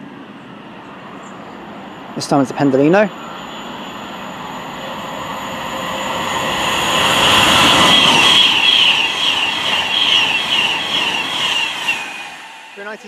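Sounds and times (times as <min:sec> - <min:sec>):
electric train passing: 0:00.0 - 0:13.0
pulsing high hiss: 0:01.6 - 0:13.0.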